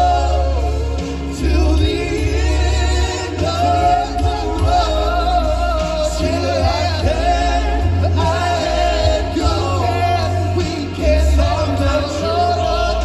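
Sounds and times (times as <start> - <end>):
heavy bass line: 0.0 - 13.0
live band playing: 0.0 - 13.0
person singing: 0.0 - 13.0.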